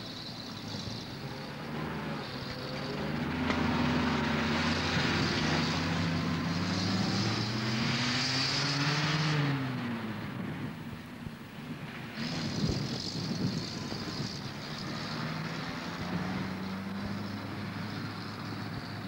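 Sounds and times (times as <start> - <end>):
truck engine driving off: 0.0 - 19.0.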